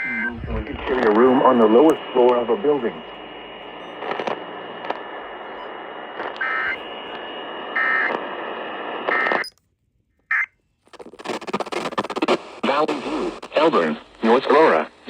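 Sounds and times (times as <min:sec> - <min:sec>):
bright noisy radio signal: 0:00.0 - 0:09.4, 0:11.5 - 0:15.0
radio receiver hiss: 0:00.0 - 0:09.4, 0:11.2 - 0:15.0.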